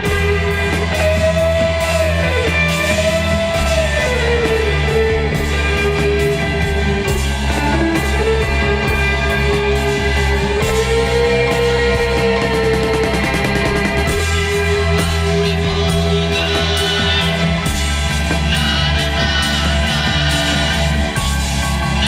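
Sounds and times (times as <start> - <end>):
psychedelic rock music: 0.0 - 22.0
sliding lead melody: 0.0 - 22.0.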